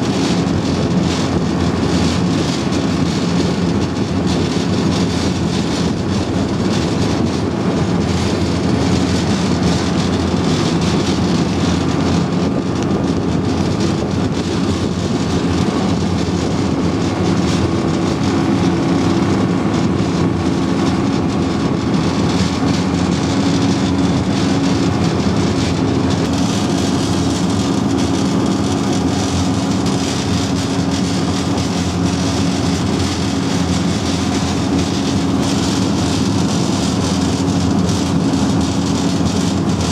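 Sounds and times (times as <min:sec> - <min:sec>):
constant rushing noise: 0:00.0 - 0:39.9
vehicle engine droning: 0:00.0 - 0:39.9.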